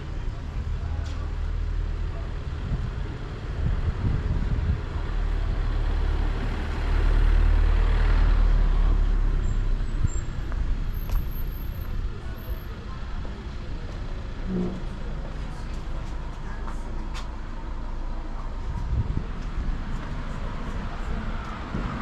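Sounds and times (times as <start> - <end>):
passing vehicle engine rumble: 0.0 - 22.0.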